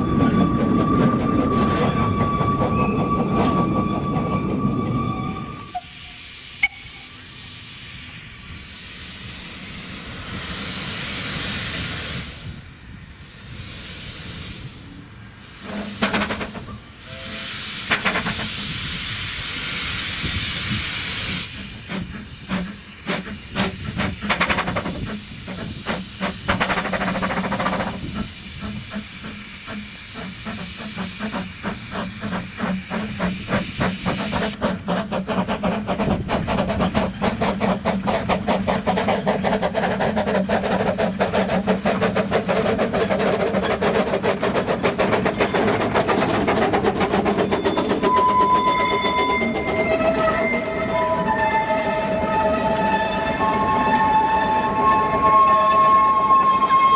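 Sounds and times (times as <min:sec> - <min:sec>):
steam hissing: 0:00.0 - 0:56.6
steam locomotive chuffing: 0:00.0 - 0:56.9.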